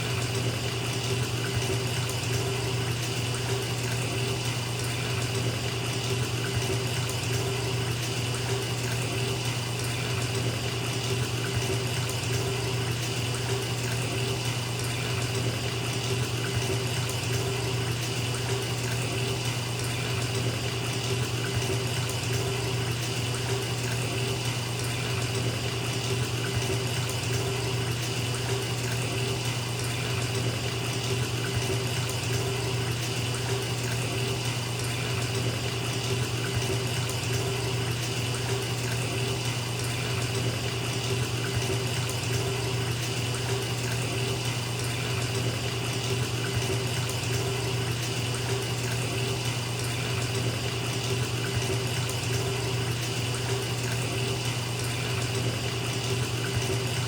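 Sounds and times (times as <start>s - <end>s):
tap water pouring into tub: 0.0s - 57.0s.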